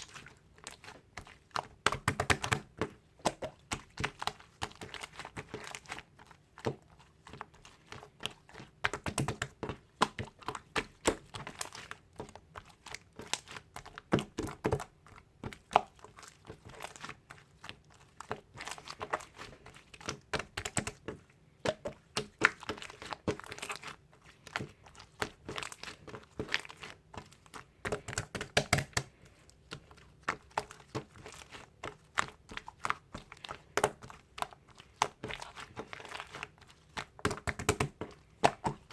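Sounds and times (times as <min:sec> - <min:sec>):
slime squishing: 0:00.0 - 0:38.9.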